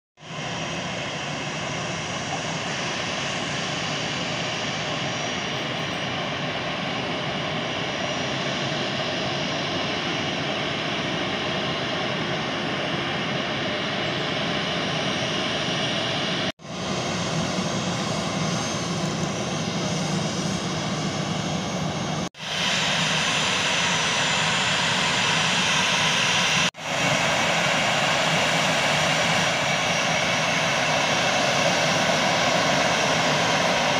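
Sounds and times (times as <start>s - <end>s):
jet engines whining: 0.2s - 33.9s.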